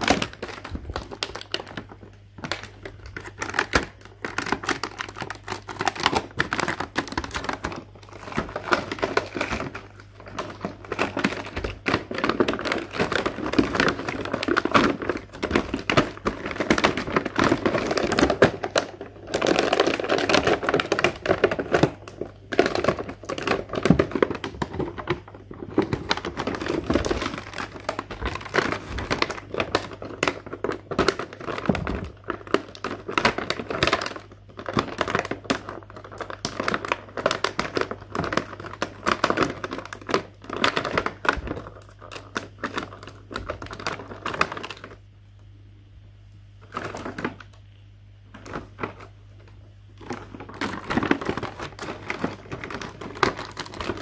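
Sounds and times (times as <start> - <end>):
plastic packaging crinkling: 0.0 - 45.1, 46.6 - 54.0.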